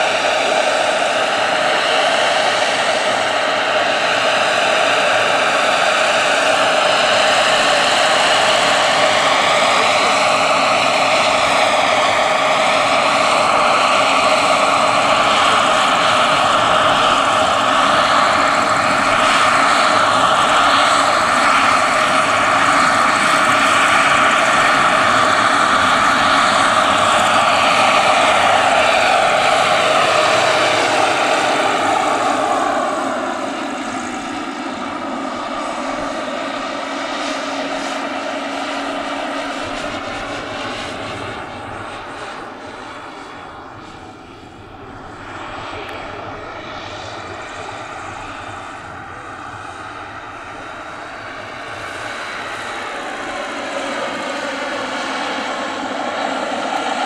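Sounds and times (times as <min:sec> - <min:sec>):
helicopter rotors turning: 0:00.0 - 0:57.0
model helicopter turbine whine: 0:00.0 - 0:57.0.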